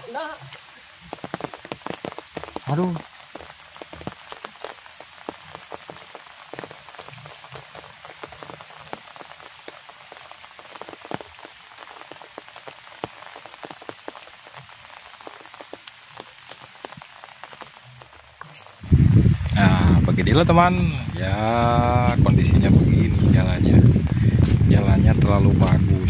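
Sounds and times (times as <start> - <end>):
raindrops ticking close by: 0.0 - 26.0
steady rain falling: 0.0 - 26.0.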